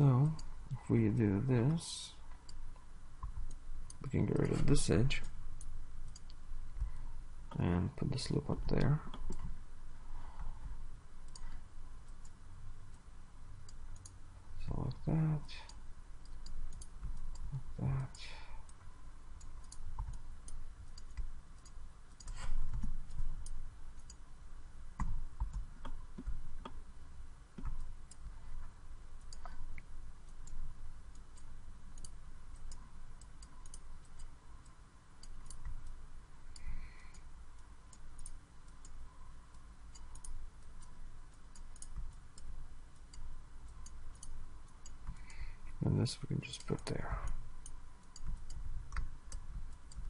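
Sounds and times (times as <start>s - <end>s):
computer mouse clicking: 1.7s - 7.6s, 10.3s - 12.4s, 13.6s - 14.2s, 14.9s - 18.8s, 19.4s - 24.2s, 25.0s - 26.8s, 27.6s - 34.4s, 35.2s - 45.8s, 46.4s - 50.0s.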